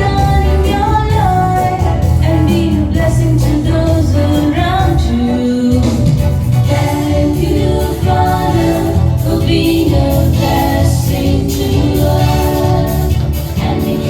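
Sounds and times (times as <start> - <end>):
instrumental accompaniment: 0.0 - 14.0
voices singing together: 0.0 - 14.0.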